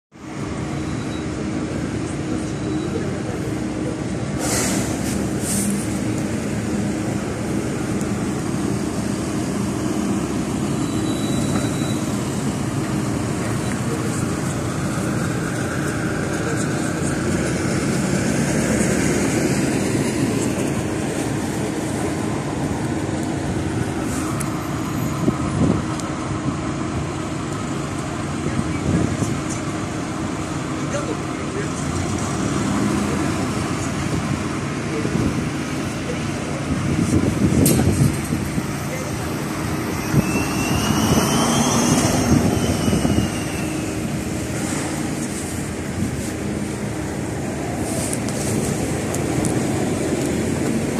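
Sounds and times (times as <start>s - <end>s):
bus engine and road rumble: 0.1s - 50.9s.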